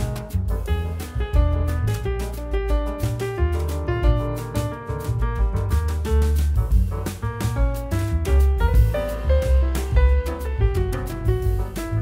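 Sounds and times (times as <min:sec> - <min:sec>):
bass: 0:00.0 - 0:12.0
drum beat: 0:00.0 - 0:12.0
piano melody: 0:00.0 - 0:12.0.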